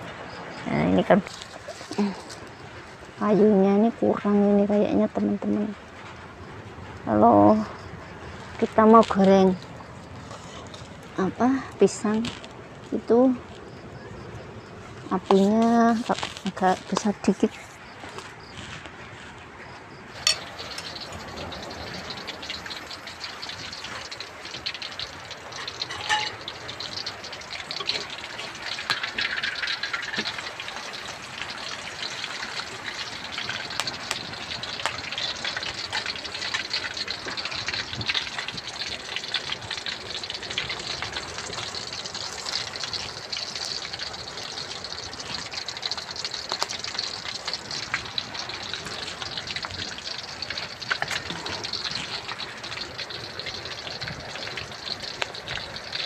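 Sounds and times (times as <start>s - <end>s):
fritters sizzling in hot oil: 0.0s - 13.8s, 14.6s - 56.0s.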